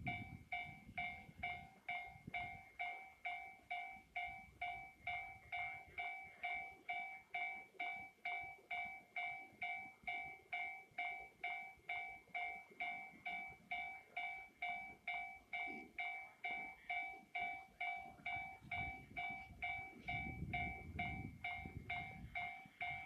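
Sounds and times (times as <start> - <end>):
level crossing warning bell: 0.0 - 23.0.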